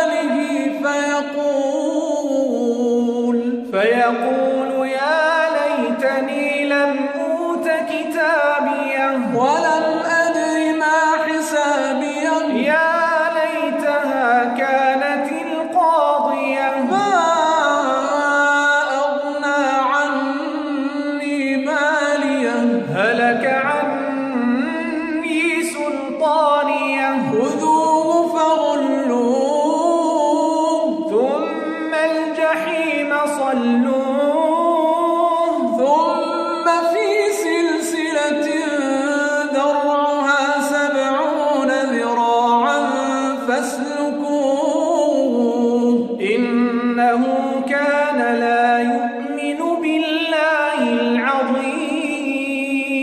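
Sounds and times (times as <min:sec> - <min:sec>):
person chanting melodically: 0:00.0 - 0:53.0.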